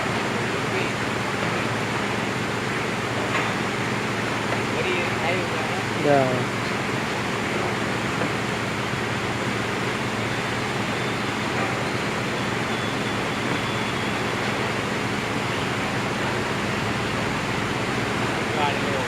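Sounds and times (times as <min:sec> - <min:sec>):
low diesel engine hum: 0:00.0 - 0:19.0.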